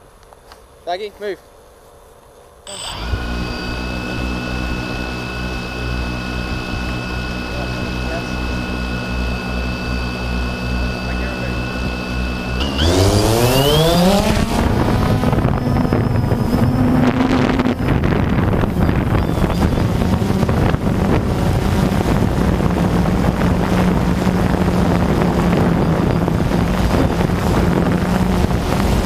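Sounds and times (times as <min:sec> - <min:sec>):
drone motors whining: 0:02.7 - 0:29.0
wind noise on microphone: 0:02.7 - 0:29.0.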